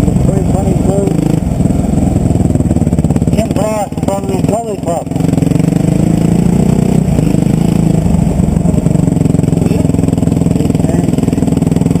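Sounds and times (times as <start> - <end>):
motocross bike engine running: 0.0 - 12.0.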